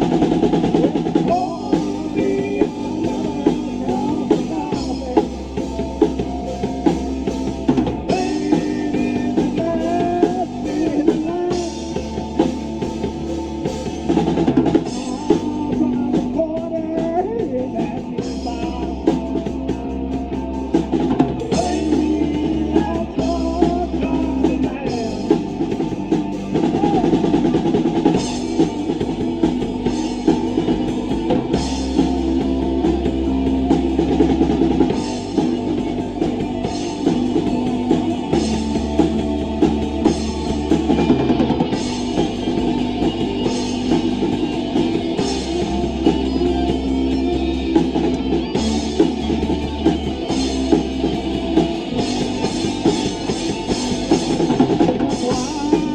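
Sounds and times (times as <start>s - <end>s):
bass drum and cymbals beat: 0.0s - 55.9s
rock band playing live: 0.0s - 55.9s.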